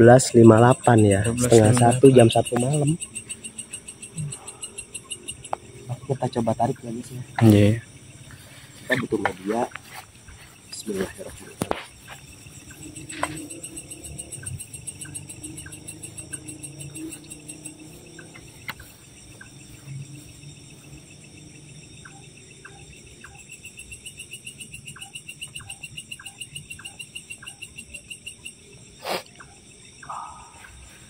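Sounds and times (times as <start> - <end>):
crickets and insects chirping: 0.0 - 31.0.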